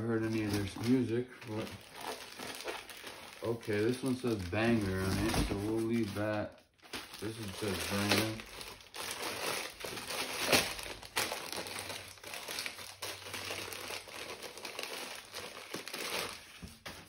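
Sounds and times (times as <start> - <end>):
sharp crackles of wrapping: 0.0 - 16.6
wrapping crinkling and rustling: 0.0 - 17.0.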